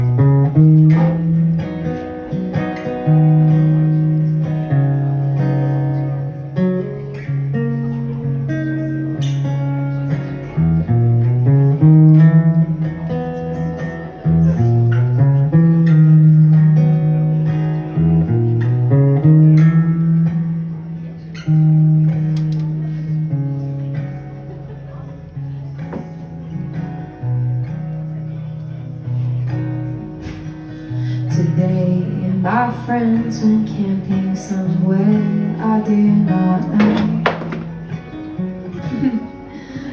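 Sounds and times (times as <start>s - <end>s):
plucked guitar notes: 0.0s - 39.9s.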